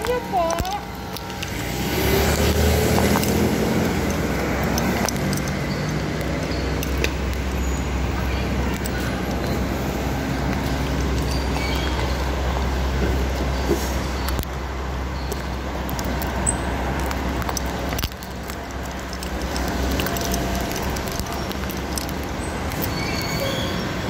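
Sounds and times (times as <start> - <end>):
vehicle engines humming: 0.0 - 24.0.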